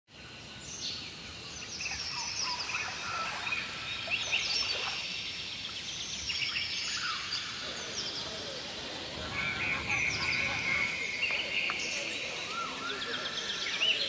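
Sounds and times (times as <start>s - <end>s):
birds singing: 0.2s - 14.0s.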